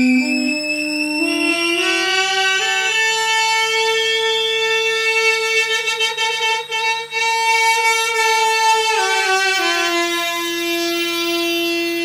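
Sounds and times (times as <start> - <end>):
duduk playing held notes: 0.0 - 12.0.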